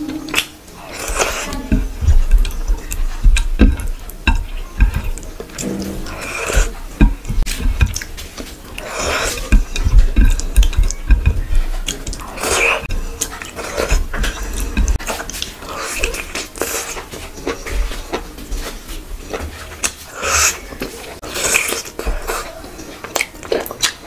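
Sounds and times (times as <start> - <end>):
wet chewing and lip-smacking: 0.2 - 5.5, 8.8 - 24.0.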